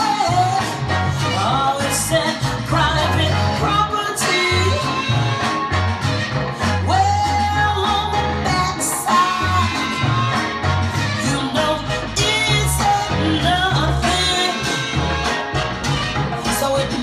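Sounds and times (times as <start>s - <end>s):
music with singing over loudspeakers: 0.0s - 17.0s.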